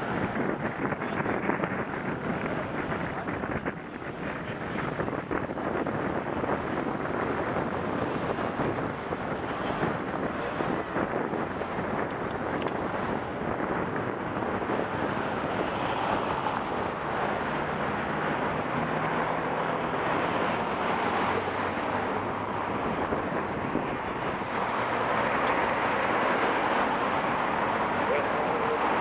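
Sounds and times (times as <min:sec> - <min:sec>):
city traffic: 0:00.0 - 0:29.0
low car engine hum: 0:00.0 - 0:29.0
wind on microphone: 0:00.0 - 0:29.0.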